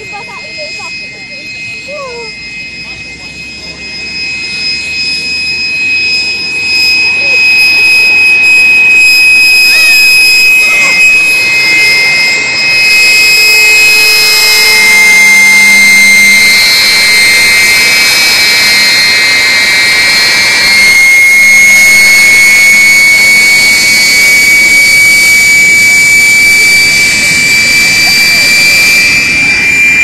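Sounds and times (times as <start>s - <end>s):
jet engines high whine: 0.0s - 30.0s.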